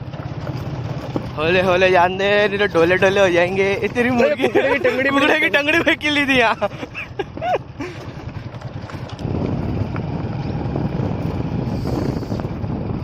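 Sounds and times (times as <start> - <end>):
vehicle rumbling on dirt track: 0.0 - 13.0
wind buffeting microphone: 0.0 - 13.0.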